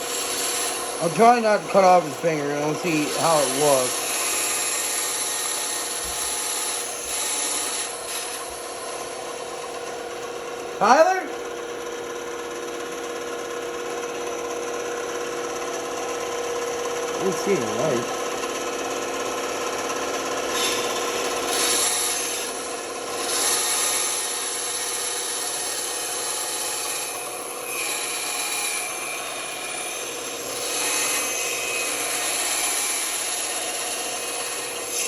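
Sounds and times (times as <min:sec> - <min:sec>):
band saw motor hum: 0:00.0 - 0:35.0
saw blade cutting wood: 0:00.0 - 0:35.0.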